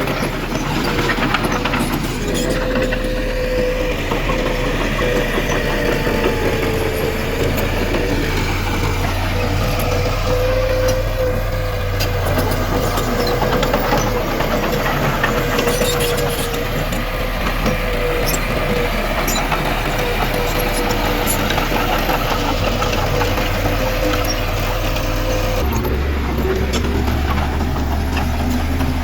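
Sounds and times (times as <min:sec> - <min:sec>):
constant whine: 0:00.0 - 0:29.0
diesel machinery engine drone: 0:00.0 - 0:29.0.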